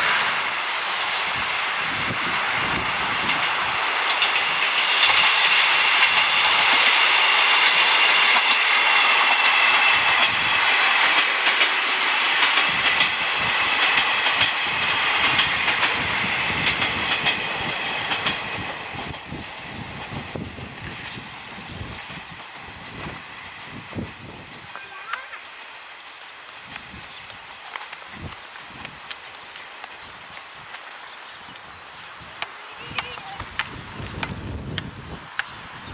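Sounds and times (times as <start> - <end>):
train wheels clicking on rails: 0.0 - 35.9.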